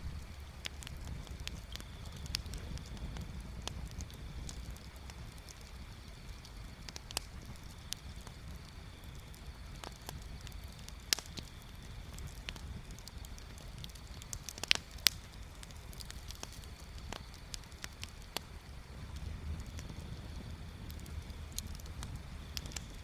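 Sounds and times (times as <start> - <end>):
bonfire crackling: 0.0 - 23.0
sharp pops of fire: 0.0 - 23.0.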